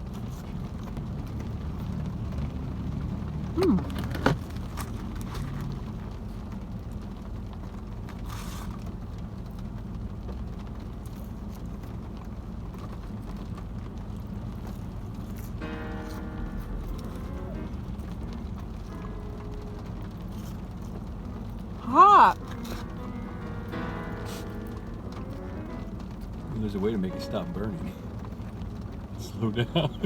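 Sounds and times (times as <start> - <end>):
low rumble in car cabin: 0.0 - 30.0.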